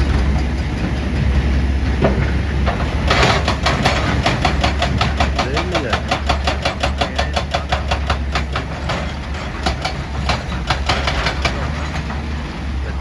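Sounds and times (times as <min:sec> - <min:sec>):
diesel engine running: 0:00.0 - 0:13.0
hydraulic breaker hammering rock: 0:00.0 - 0:13.0.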